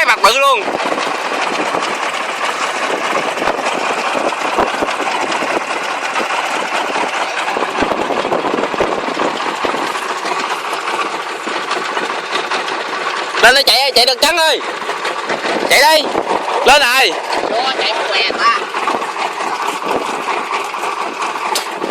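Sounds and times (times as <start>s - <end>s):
harvester engine running: 0.0s - 21.9s
fast clatter of knocks: 0.6s - 17.8s, 18.6s - 21.9s.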